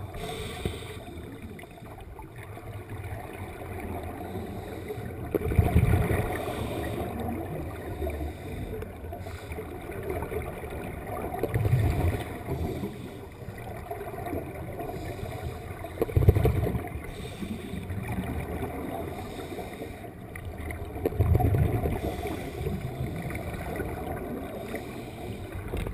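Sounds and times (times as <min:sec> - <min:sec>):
steady water hiss: 0:00.0 - 0:25.9
underwater bubbles gurgling: 0:00.0 - 0:25.9.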